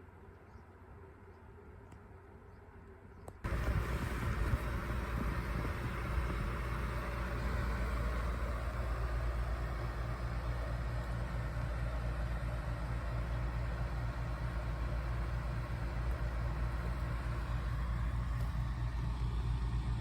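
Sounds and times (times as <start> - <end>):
low pulsing mechanical hum: 0.0 - 20.0.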